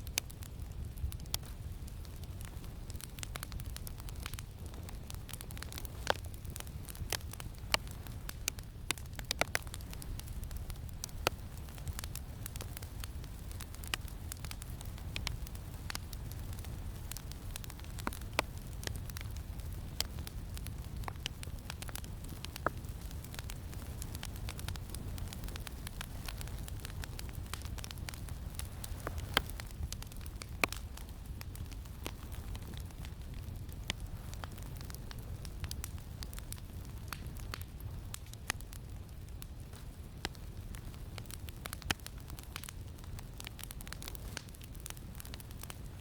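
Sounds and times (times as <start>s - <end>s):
campfire crackling and popping: 0.0s - 46.0s
low rumble of wind: 0.0s - 46.0s.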